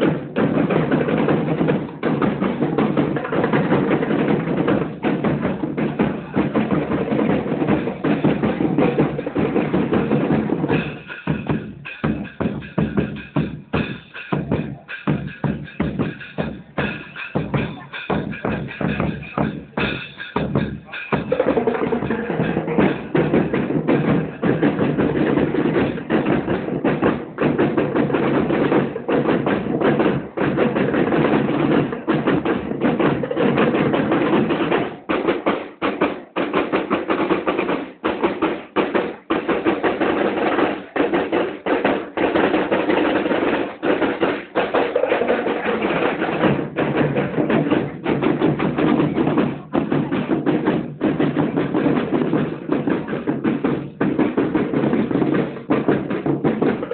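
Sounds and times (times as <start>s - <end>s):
marching band playing: 0.0s - 56.9s
snare and bass drums beating: 0.0s - 56.9s.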